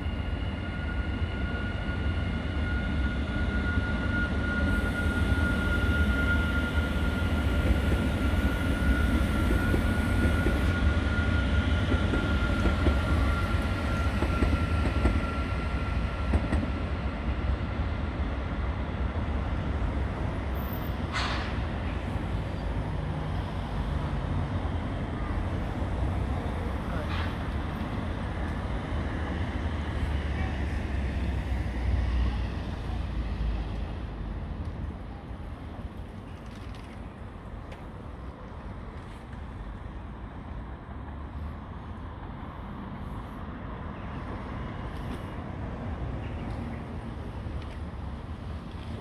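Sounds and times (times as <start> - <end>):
electric train rumbling: 0.0 - 49.0.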